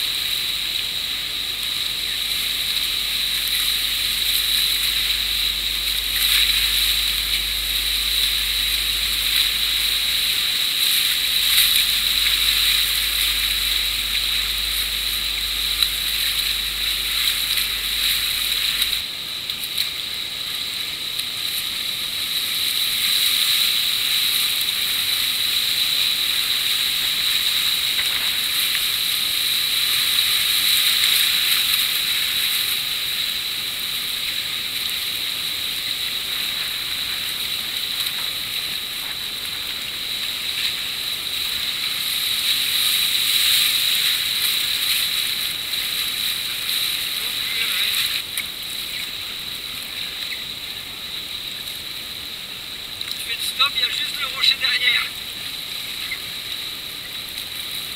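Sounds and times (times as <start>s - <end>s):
whitewater rapids rushing: 0.0s - 57.9s.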